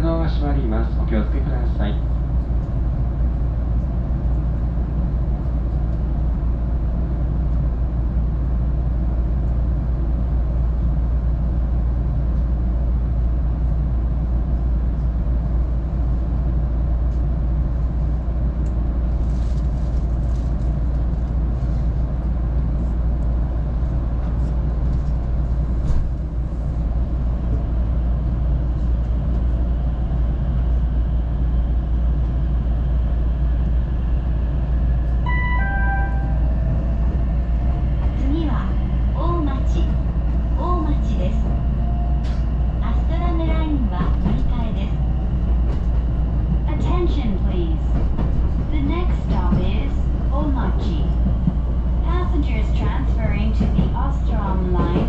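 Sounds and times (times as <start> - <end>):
train interior low rumble: 0.0 - 55.0.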